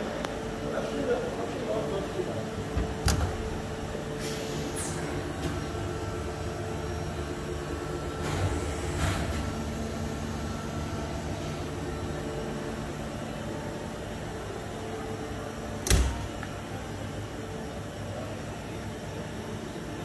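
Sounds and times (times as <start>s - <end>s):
faint machine whine: 0.0s - 20.0s
machining center humming: 0.0s - 20.0s.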